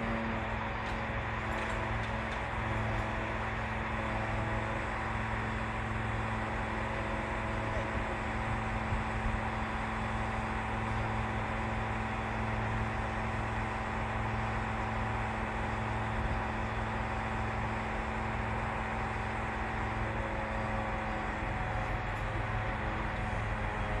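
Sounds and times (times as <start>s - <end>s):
truck engine drone: 0.0s - 24.0s.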